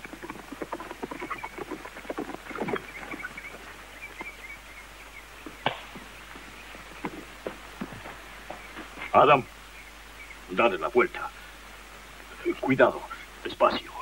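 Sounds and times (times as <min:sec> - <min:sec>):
horse hooves on dry dirt: 0:00.0 - 0:13.3.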